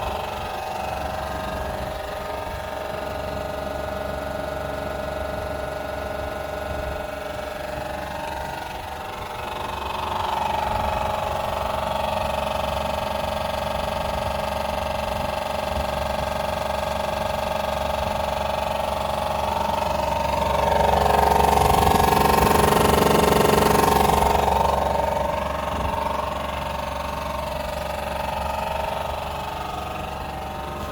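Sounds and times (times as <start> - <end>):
car fan whining with rushing air: 0.0 - 30.9.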